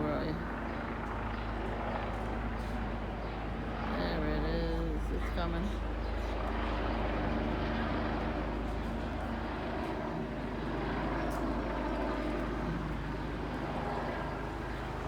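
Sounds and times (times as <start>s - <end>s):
helicopter flying: 0.0s - 15.0s.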